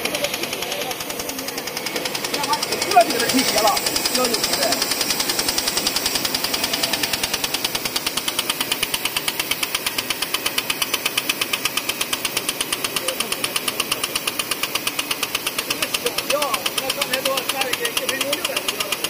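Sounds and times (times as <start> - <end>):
die-cutting machine clatter: 0.0 - 19.0.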